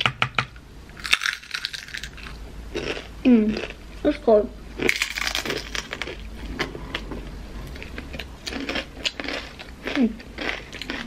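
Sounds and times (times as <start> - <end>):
people chewing crunchy food: 1.0 - 4.0, 4.7 - 11.0.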